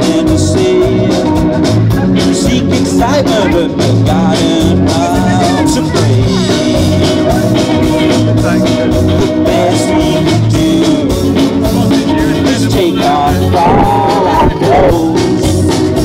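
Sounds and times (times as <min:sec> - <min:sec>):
live band playing: 0:00.0 - 0:16.0.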